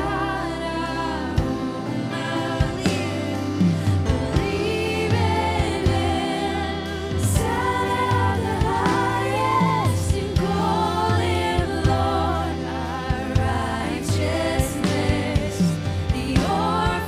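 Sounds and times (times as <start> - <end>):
band playing worship music: 0.0 - 17.0
bass notes: 0.0 - 17.0
drum and cymbal hits: 2.6 - 17.0.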